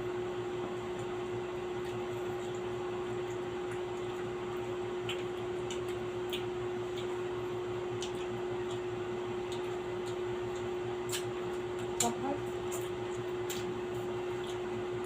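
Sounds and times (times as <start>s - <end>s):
steady background hum: 0.0s - 15.0s
eating sounds: 1.0s - 15.0s.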